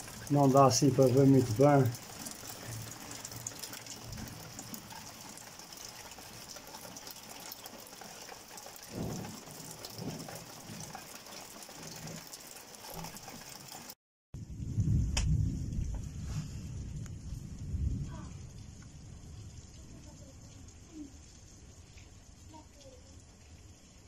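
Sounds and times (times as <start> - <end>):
faint thunder rumbles: 0.0 - 6.8, 8.0 - 12.3, 14.4 - 24.0
steady rain: 0.0 - 24.0.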